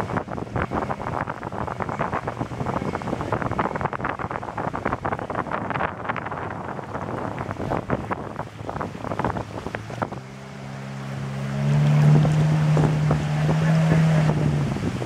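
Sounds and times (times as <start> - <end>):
boat engine humming: 0.0 - 15.0
water splashing against hull: 0.0 - 15.0.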